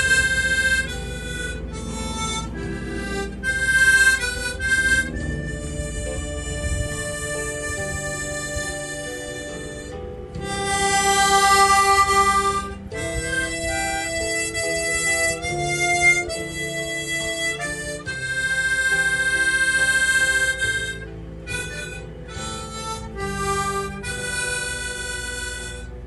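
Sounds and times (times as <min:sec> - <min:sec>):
musical accompaniment: 0:00.0 - 0:26.0
reedy instrument melody: 0:00.0 - 0:26.0.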